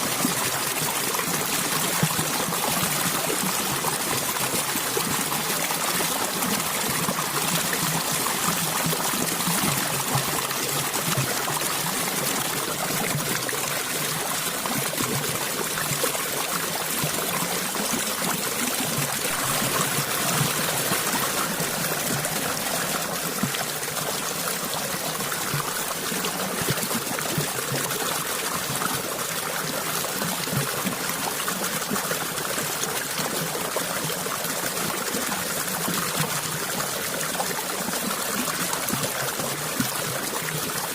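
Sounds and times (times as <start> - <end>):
water flowing over stones: 0.0 - 40.9.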